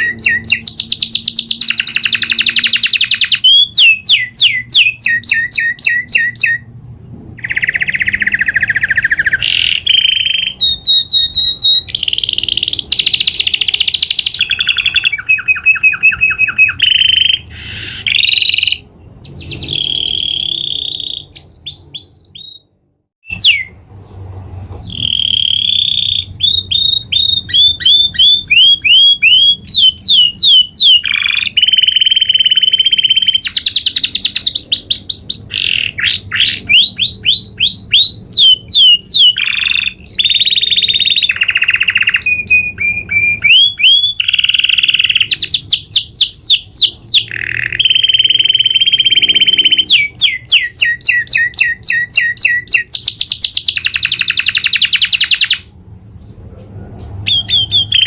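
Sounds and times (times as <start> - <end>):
canary singing trills: 0.0 - 6.8, 7.4 - 23.8, 24.8 - 58.0.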